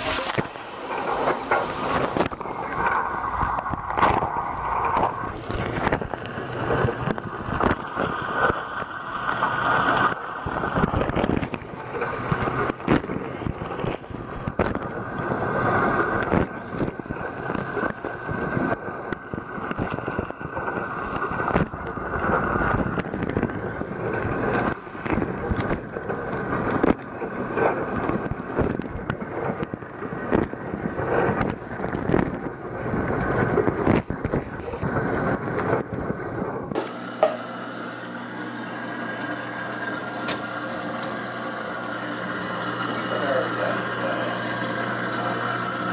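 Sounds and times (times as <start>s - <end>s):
dishwasher water jets splashing: 0.0s - 45.9s.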